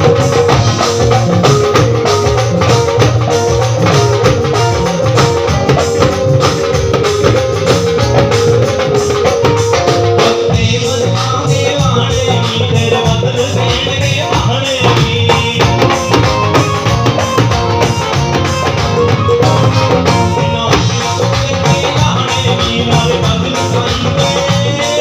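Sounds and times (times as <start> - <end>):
live band amplified music: 0.0 - 25.0.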